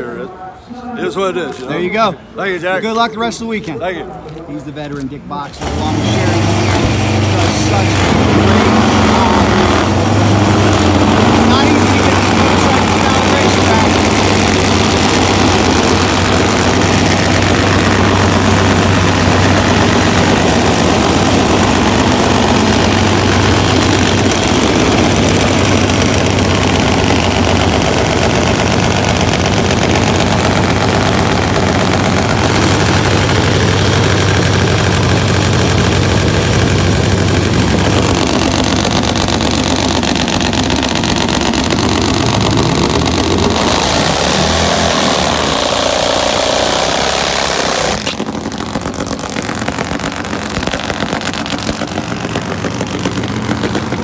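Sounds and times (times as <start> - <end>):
drag motorcycle engine idling: 5.4 - 54.0.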